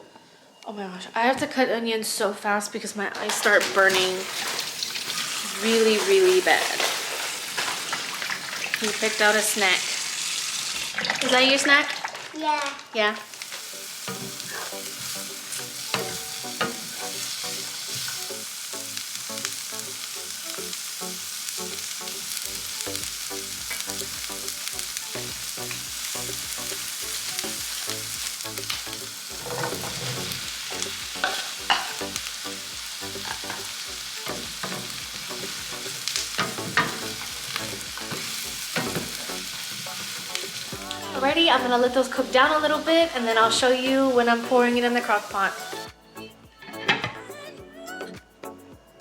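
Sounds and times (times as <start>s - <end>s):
onions and mushrooms frying: 3.2s - 45.9s.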